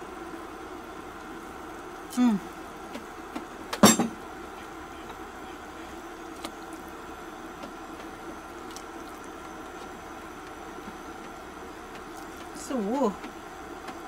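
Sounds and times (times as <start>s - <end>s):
kitchen appliance humming: 0.0s - 14.0s.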